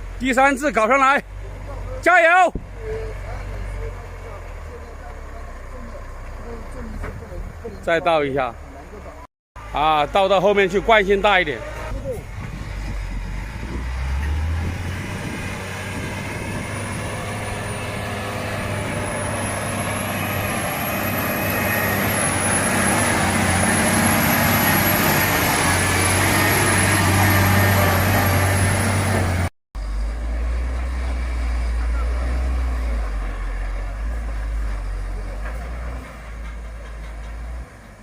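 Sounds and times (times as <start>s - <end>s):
truck engine pulling hard: 0.0s - 38.0s.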